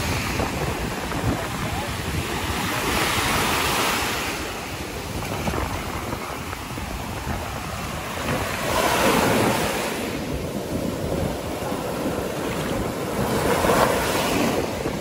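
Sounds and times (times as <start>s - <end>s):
surf breaking on sand: 0.0s - 15.0s
wind buffeting microphone: 0.0s - 15.0s.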